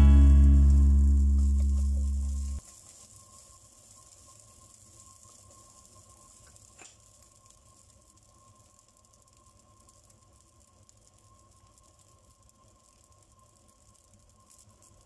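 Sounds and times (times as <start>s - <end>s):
faint sizzle of rice frying: 0.0s - 15.0s.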